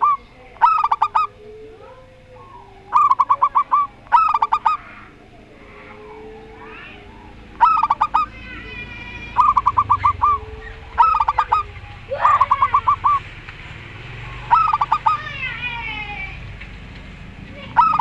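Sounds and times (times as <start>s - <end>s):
doves cooing: 0.0s - 18.0s
small birds chirping: 0.0s - 18.0s.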